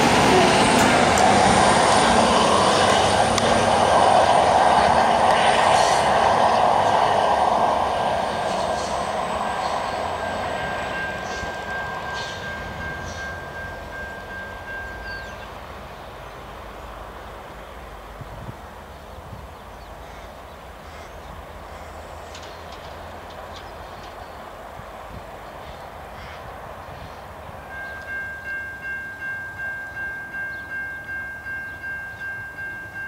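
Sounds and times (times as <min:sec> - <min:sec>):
diesel train pulling away: 0:00.0 - 0:33.0.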